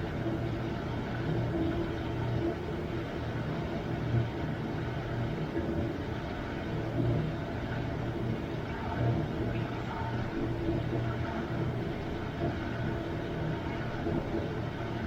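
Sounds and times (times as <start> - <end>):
dishwasher pump hum: 0.0 - 15.0.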